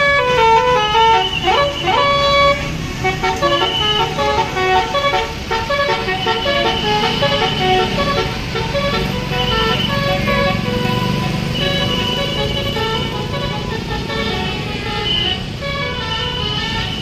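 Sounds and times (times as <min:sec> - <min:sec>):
bus engine and traffic rumble: 0:00.0 - 0:17.0
bus horn playing a tune: 0:00.0 - 0:17.0.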